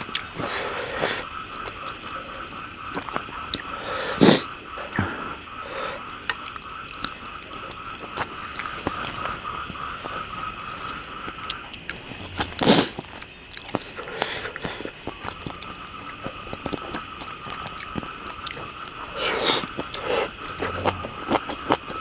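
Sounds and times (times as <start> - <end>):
frogs and insects trilling: 0.0 - 22.0.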